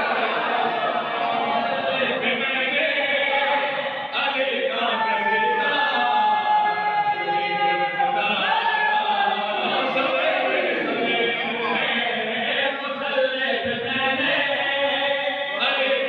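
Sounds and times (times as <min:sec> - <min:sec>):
men singing in chorus: 0:00.0 - 0:16.0
man chanting into a microphone: 0:01.8 - 0:16.0.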